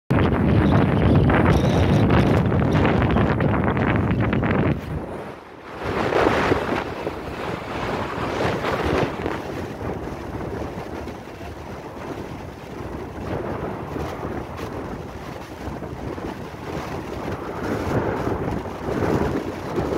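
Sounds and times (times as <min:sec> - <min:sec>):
wind buffeting microphone: 0:00.1 - 0:19.9.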